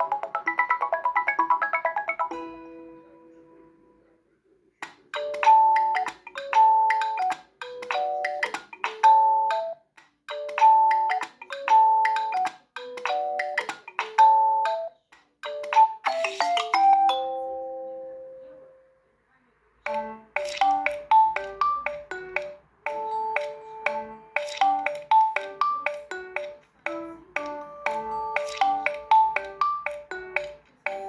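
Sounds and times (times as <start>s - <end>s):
bell-like ringtone melody: 0.0s - 4.0s, 5.2s - 18.9s, 19.9s - 31.0s.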